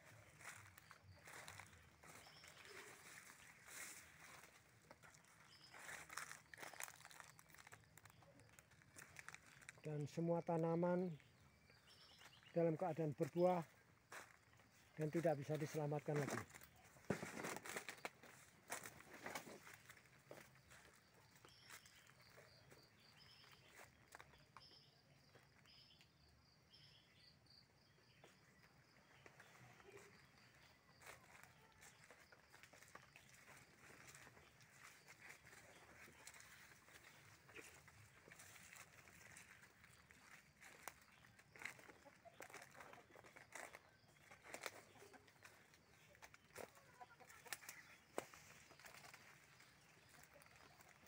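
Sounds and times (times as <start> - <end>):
footsteps on dry leaves: 0.0 - 9.9, 11.9 - 24.4, 28.3 - 51.0.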